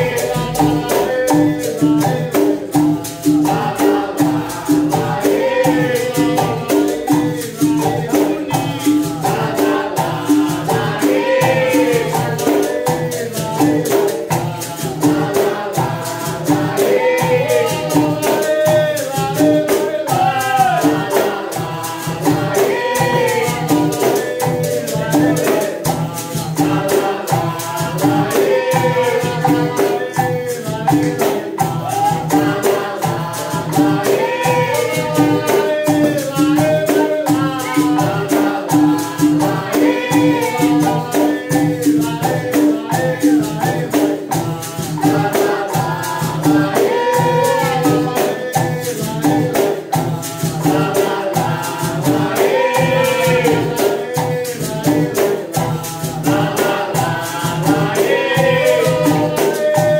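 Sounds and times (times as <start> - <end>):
hand drums beating: 0.0 - 59.9
voices singing: 0.0 - 59.9.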